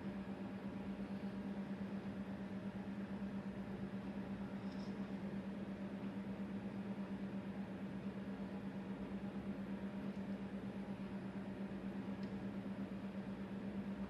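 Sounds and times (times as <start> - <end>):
steady low motor hum: 0.0 - 14.0.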